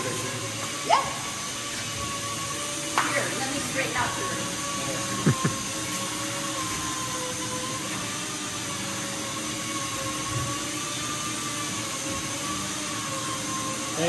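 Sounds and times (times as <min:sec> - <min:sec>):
high wavering hum: 0:00.0 - 0:14.0
machine drone: 0:00.0 - 0:14.0.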